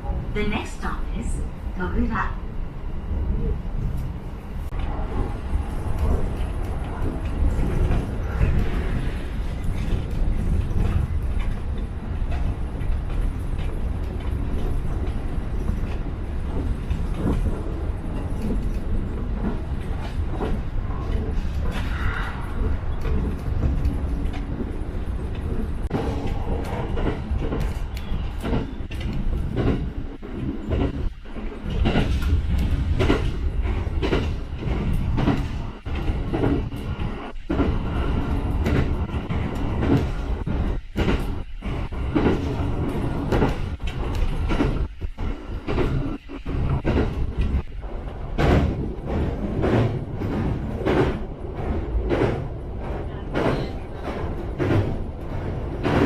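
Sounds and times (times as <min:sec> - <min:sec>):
train low rumble: 0:00.0 - 0:56.0.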